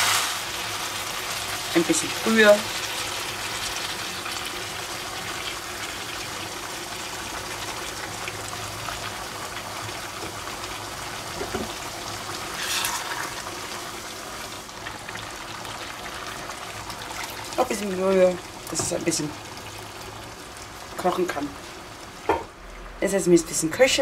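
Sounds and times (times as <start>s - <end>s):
food sizzling and bubbling in a pan: 0.0s - 24.0s.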